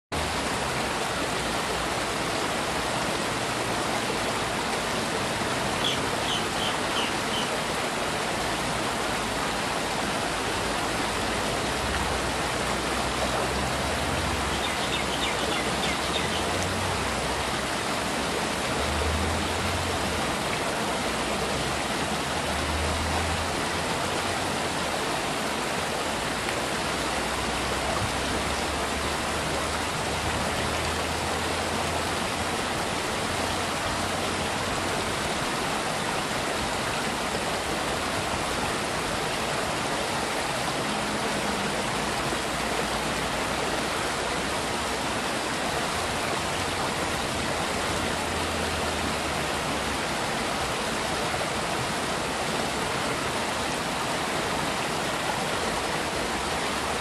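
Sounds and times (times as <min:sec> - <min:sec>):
stream water flowing: 0:00.1 - 0:57.0.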